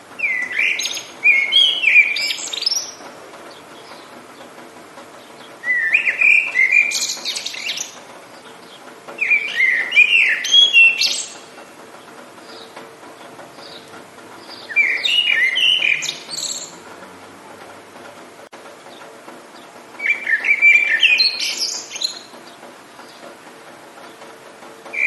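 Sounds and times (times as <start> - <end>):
songbird singing: 0.0 - 24.3.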